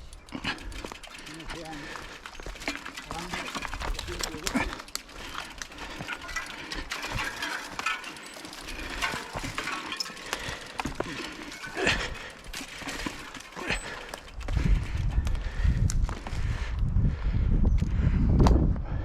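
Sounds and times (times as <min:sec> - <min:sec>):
bike tyres crunching on trail: 0:00.0 - 0:17.2.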